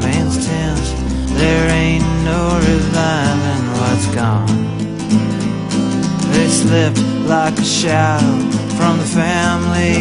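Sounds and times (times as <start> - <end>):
person singing: 0.0 - 4.7, 6.2 - 10.0
country song with acoustic guitar: 0.0 - 10.0.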